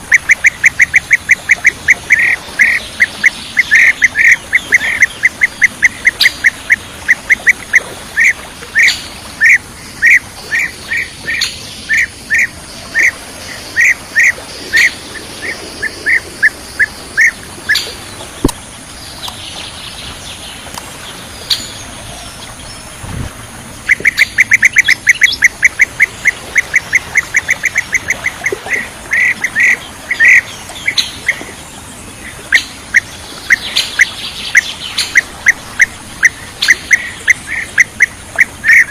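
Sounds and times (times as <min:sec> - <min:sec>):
bee-eater calling: 0:00.0 - 0:18.2, 0:23.8 - 0:31.6, 0:32.2 - 0:38.9.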